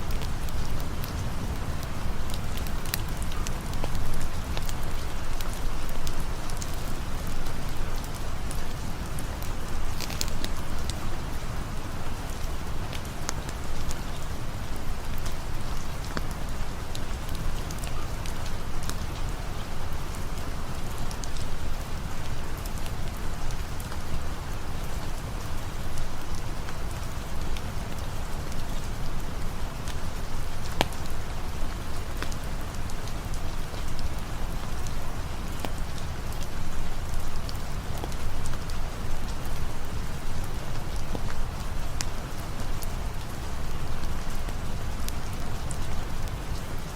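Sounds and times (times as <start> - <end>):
rain pattering: 0.0 - 46.9.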